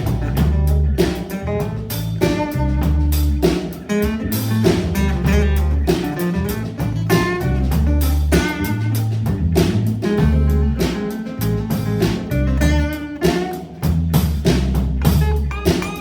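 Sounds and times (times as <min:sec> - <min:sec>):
bass guitar: 0:00.0 - 0:16.0
drum kit with cymbals: 0:00.0 - 0:16.0
electric guitar: 0:00.0 - 0:16.0.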